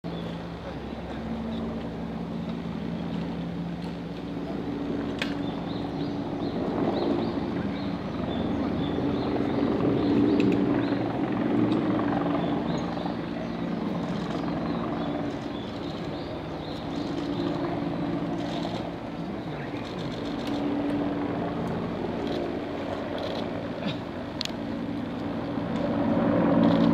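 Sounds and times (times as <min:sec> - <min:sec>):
low engine drone: 0:00.1 - 0:26.9.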